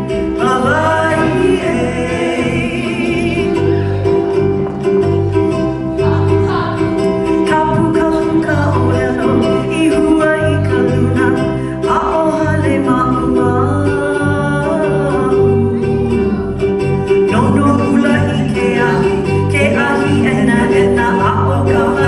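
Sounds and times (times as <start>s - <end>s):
person singing: 0.0s - 22.0s
strummed guitar: 0.0s - 22.0s.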